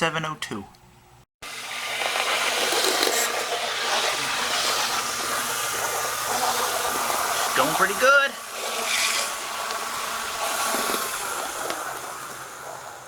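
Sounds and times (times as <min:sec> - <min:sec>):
model locomotive motor whirring: 0:01.5 - 0:13.0.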